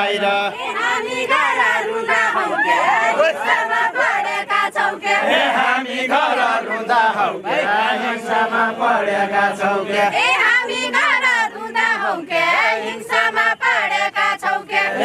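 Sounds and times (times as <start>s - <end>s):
men and women singing in chorus: 0.0s - 15.0s.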